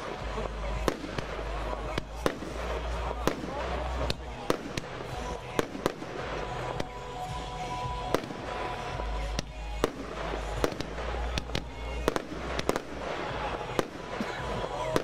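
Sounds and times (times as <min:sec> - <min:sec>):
continuous low rumble: 0:00.0 - 0:15.0.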